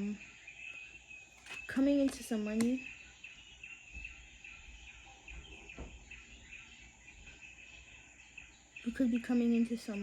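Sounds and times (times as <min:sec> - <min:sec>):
bird chirps: 0:00.0 - 0:10.0
insects chirring: 0:00.0 - 0:10.0.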